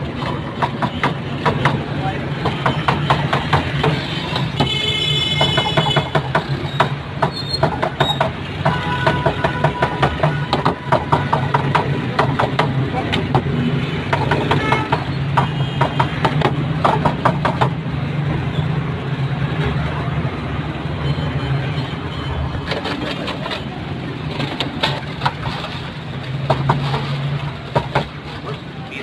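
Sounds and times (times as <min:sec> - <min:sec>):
street noise: 0:00.0 - 0:29.0.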